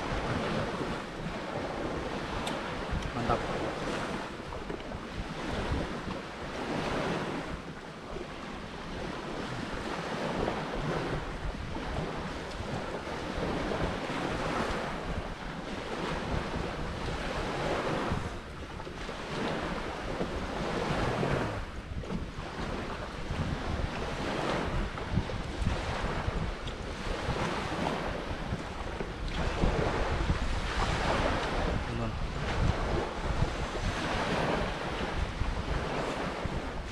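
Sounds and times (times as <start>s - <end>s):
surf washing onto beach: 0.0s - 36.9s
wind buffeting microphone: 0.0s - 36.9s.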